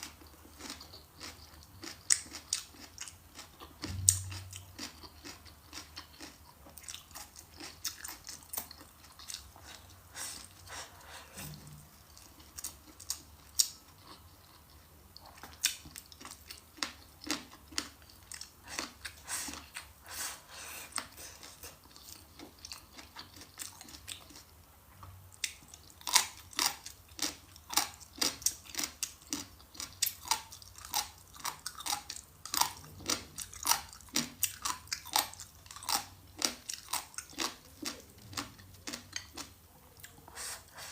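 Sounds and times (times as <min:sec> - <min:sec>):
crunchy food chewing: 0:00.0 - 0:19.9, 0:20.9 - 0:24.5, 0:25.4 - 0:40.2.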